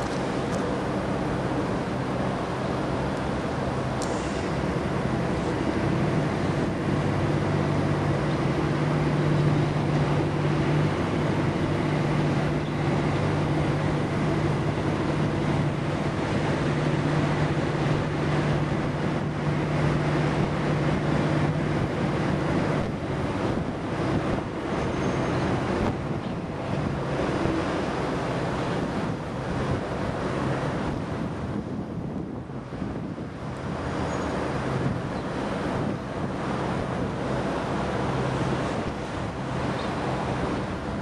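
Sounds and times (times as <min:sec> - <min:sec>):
engine running: 0:00.0 - 0:41.0.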